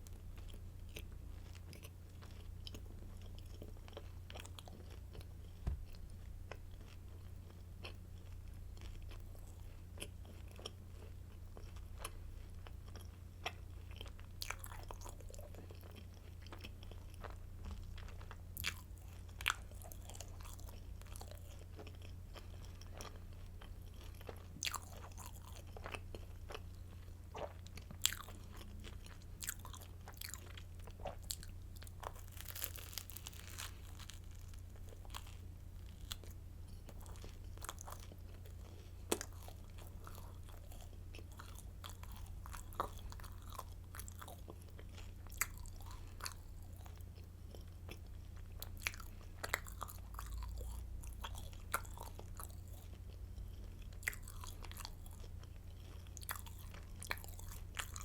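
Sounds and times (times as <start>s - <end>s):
crunching and chewing bread: 0.0s - 58.0s
steady low hum: 0.0s - 58.0s.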